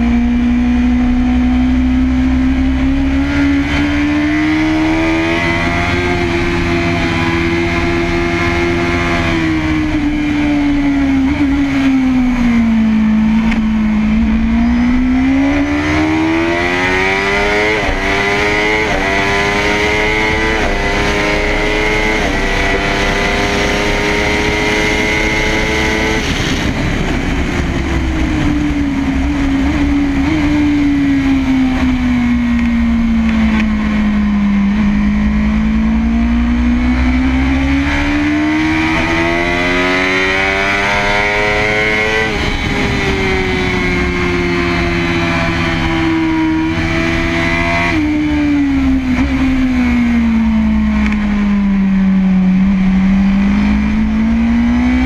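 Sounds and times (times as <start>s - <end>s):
motorcycle engine at full throttle: 0.0s - 55.0s
wind rushing: 2.8s - 55.0s.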